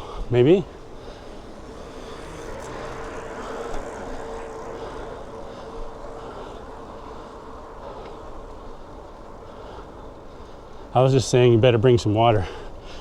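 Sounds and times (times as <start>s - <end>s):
road noise rush: 0.0s - 13.0s
vehicle hum: 0.0s - 13.0s.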